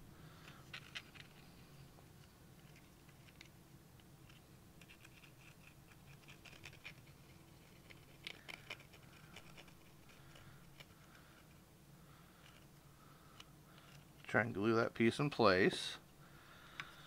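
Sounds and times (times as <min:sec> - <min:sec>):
faint scratching of plastic parts: 0:00.3 - 0:14.7.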